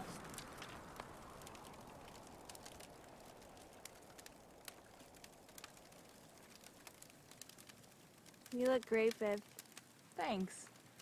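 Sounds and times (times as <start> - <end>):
faint bonfire crackling: 0.0 - 11.0.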